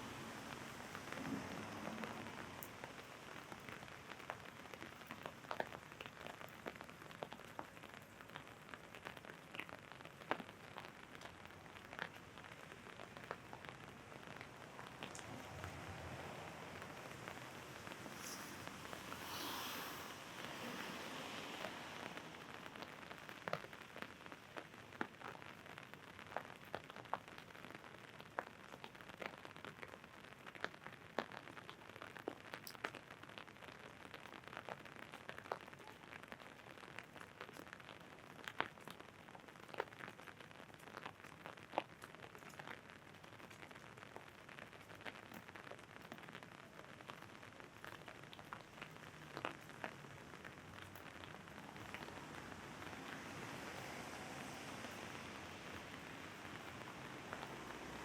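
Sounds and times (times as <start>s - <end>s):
light rain: 0.0s - 58.0s.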